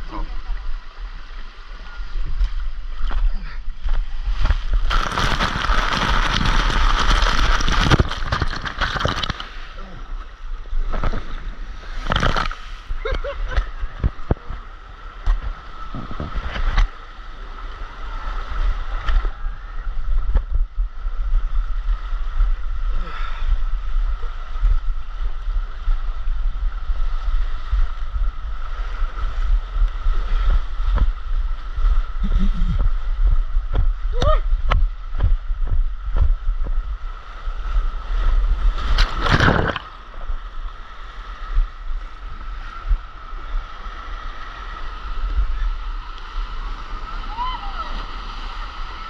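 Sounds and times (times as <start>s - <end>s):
water rushing along a slide: 0.0s - 49.0s.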